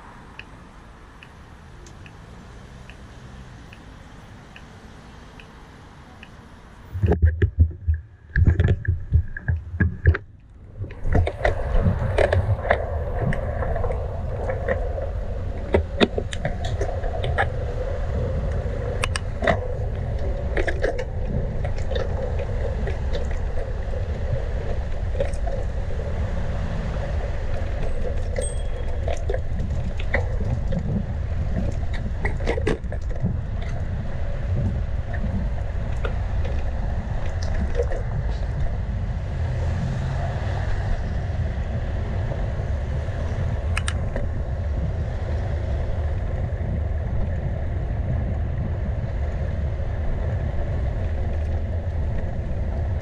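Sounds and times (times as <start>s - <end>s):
tyres rolling on road: 0.0s - 53.0s.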